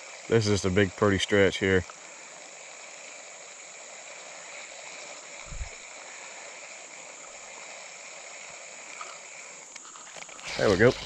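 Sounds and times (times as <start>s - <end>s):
creek water running: 0.0s - 11.0s
high insect drone: 0.0s - 11.0s.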